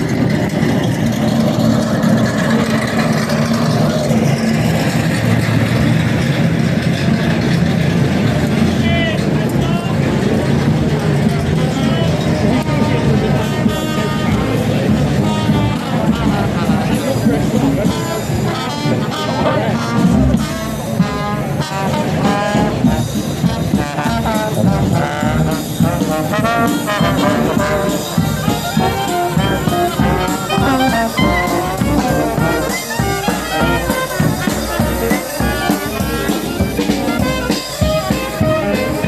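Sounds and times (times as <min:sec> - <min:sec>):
marching brass band playing: 0:00.0 - 0:39.0.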